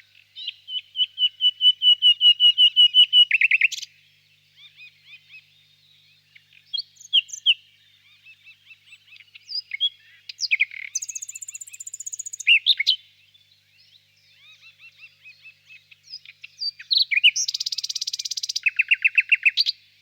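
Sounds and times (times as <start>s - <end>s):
nightingale singing: 0.0s - 20.0s
small birds chirping: 0.0s - 20.0s.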